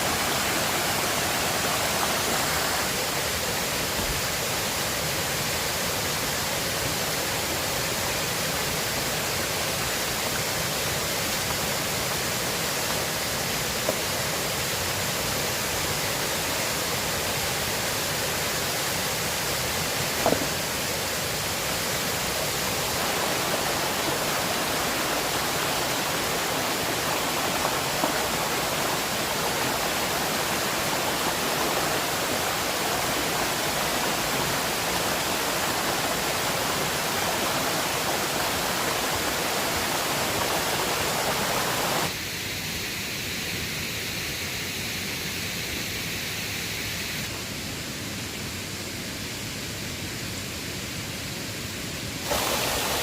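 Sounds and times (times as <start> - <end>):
river water rushing: 0.0 - 42.2, 51.1 - 53.0.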